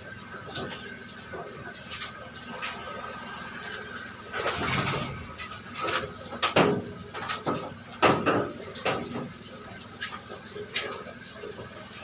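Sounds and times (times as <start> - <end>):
shower sprayer running: 0.0 - 12.0
steady background hum: 0.0 - 12.0.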